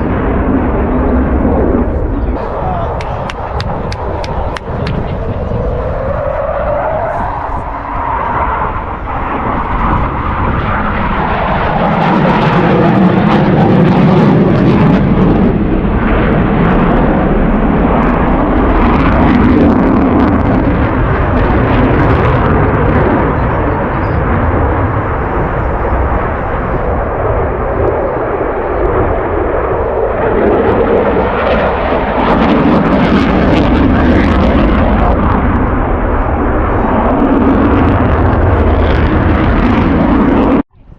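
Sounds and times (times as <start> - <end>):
jet engine roar: 0.0 - 40.9.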